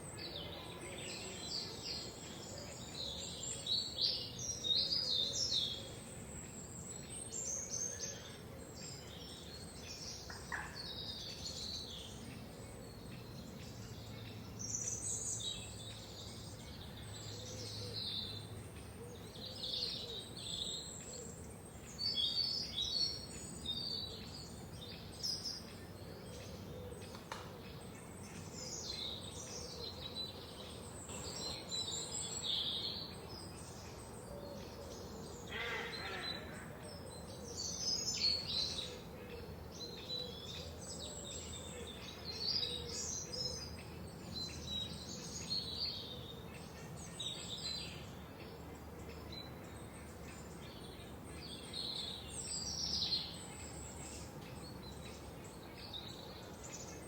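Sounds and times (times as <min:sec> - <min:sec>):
faint background hiss: 0:00.0 - 0:57.0
forest birds singing and chirping: 0:00.0 - 0:57.0.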